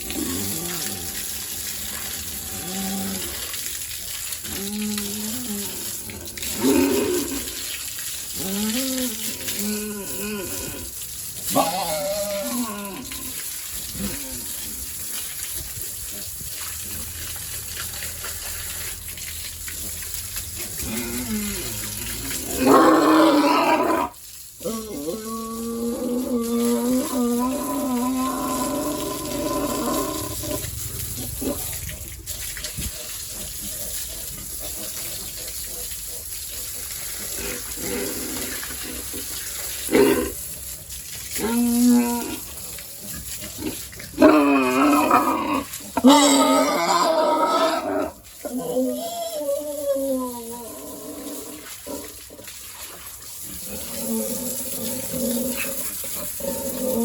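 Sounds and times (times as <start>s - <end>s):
water splashing from a hose: 0.0s - 57.0s
pigs calling: 4.2s - 14.9s, 16.1s - 57.0s.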